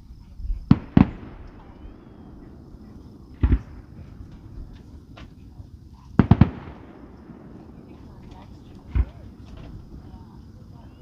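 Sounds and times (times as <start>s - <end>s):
firework bang: 0.6s - 5.6s, 6.2s - 10.4s
faint firework pops: 0.7s - 5.6s, 6.2s - 10.3s.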